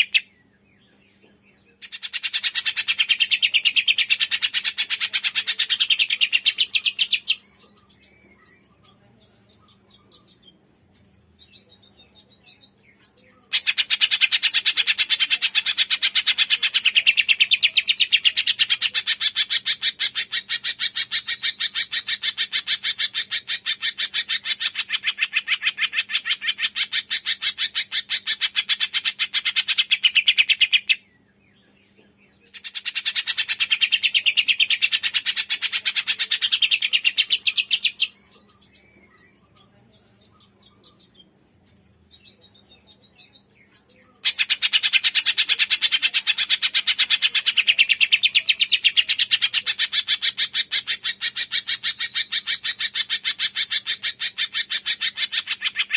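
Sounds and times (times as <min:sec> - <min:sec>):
bird rapid chirping: 0:00.0 - 0:00.3, 0:01.7 - 0:09.0, 0:09.6 - 0:31.1, 0:32.4 - 0:55.9
faint bird calls: 0:00.0 - 0:55.9.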